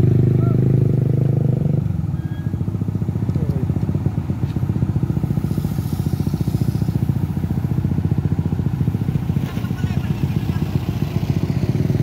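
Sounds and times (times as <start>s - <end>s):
engine idling: 1.9s - 12.0s.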